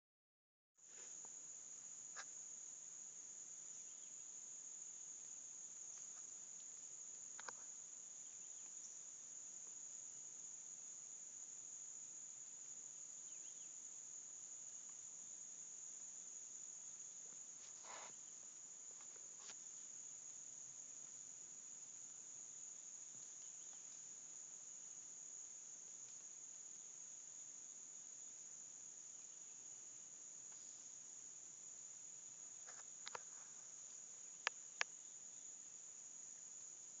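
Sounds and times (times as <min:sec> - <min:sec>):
crickets droning: 0:00.8 - 0:37.0.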